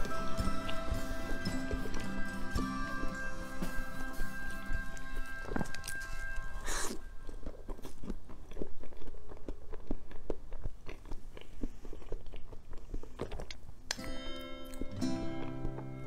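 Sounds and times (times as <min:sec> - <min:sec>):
moist chewing mouth clicks: 0:00.0 - 0:14.1, 0:14.7 - 0:16.0.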